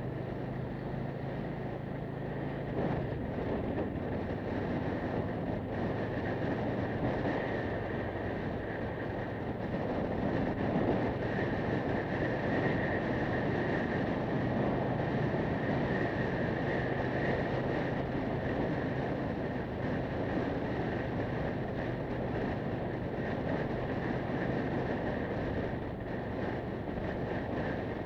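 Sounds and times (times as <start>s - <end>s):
motorcycle cruising: 0.0s - 28.0s
wind noise: 0.0s - 28.0s.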